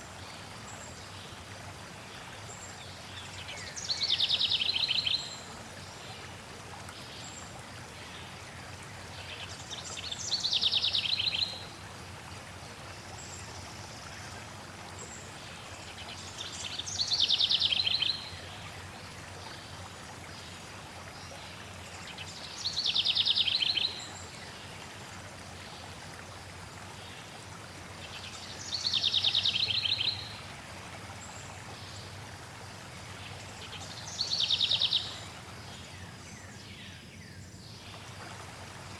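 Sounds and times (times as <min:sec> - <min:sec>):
flowing water hiss: 0:00.0 - 0:38.9.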